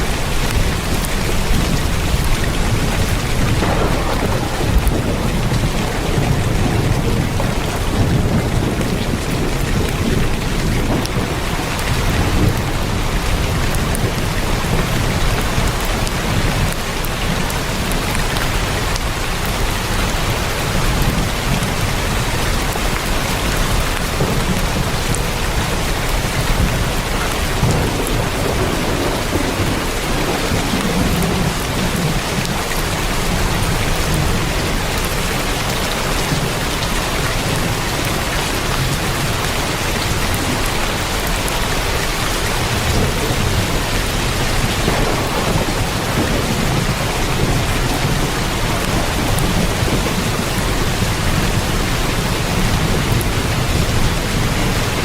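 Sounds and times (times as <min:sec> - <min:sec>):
heavy rain on a tin roof: 0:00.0 - 0:55.0
low thunder rumbles: 0:00.0 - 0:55.0.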